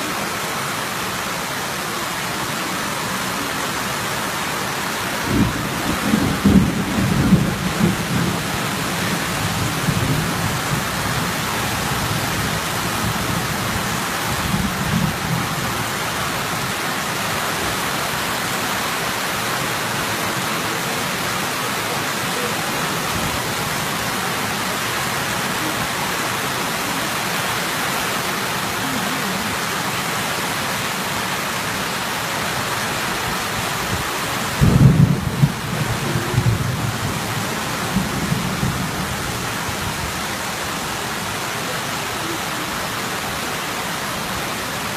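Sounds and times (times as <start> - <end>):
heavy rain pouring on puddles: 0.0 - 44.9.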